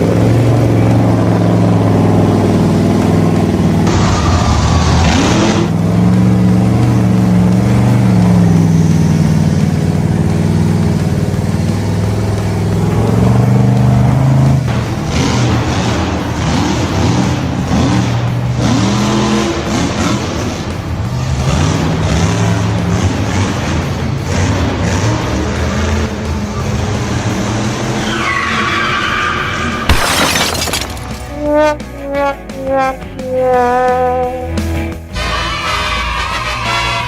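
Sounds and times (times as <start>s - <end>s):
engine revving: 0.0s - 30.0s, 30.7s - 37.0s.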